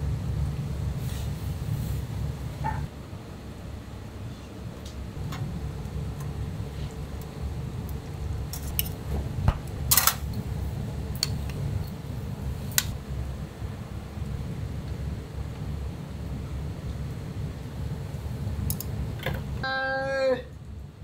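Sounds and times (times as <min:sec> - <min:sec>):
steady low rumble: 0:00.0 - 0:19.6.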